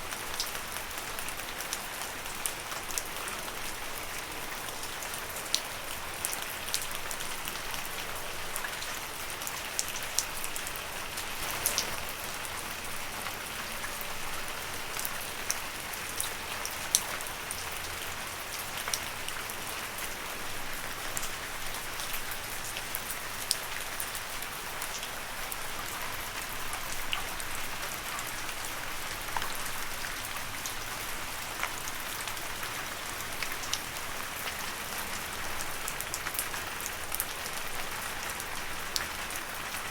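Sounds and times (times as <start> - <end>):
rain falling on leaves: 0.0 - 39.9
raindrops pattering: 0.0 - 39.9.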